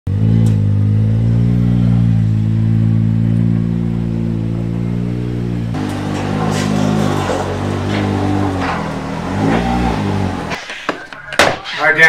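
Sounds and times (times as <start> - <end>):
engine running at low speed: 0.1 - 10.6.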